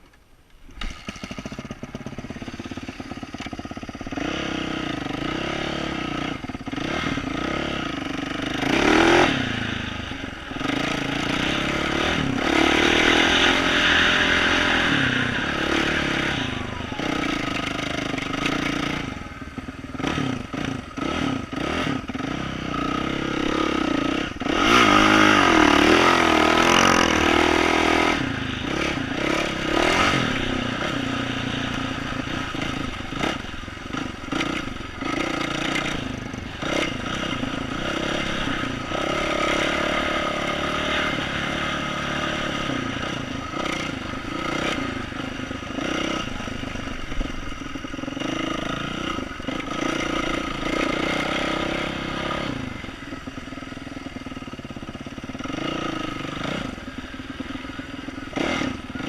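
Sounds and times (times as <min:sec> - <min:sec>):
dirt bike engine revving: 0:00.8 - 0:59.0.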